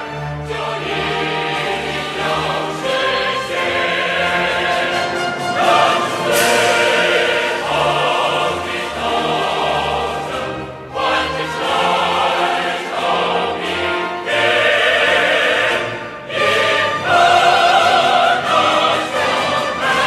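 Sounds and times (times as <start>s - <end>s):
music: 0.0s - 20.0s.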